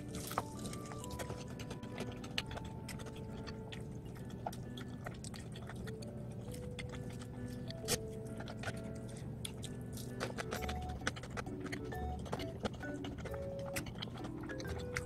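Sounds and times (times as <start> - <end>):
biting and chewing fried chicken: 0.0 - 15.0
crispy crust crackling: 0.0 - 15.0
light background music: 0.0 - 15.0.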